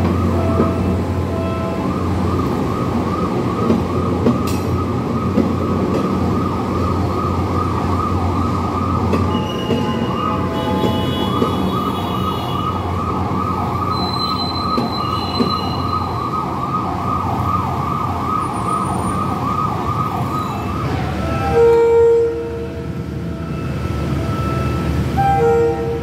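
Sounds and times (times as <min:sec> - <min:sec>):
train rumbling on rails: 0:00.0 - 0:26.0
warbling electronic warning siren: 0:00.0 - 0:26.0.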